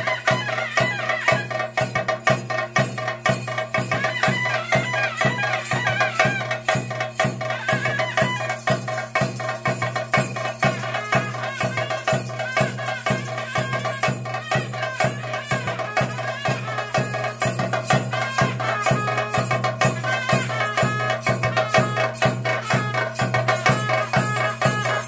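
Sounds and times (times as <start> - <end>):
drum strokes: 0.0 - 25.0.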